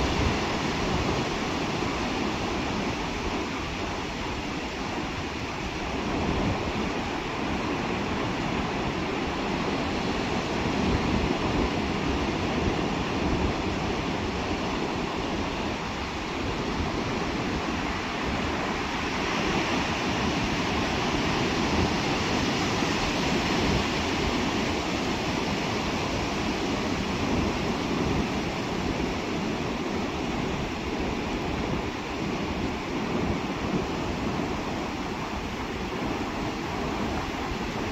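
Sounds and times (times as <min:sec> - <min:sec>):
surf breaking on beach: 0:00.0 - 0:37.9.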